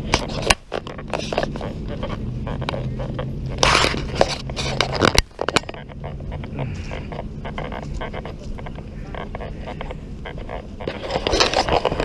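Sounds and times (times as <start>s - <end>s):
camera handling scraping and rustling: 0.0s - 5.8s, 6.4s - 12.0s.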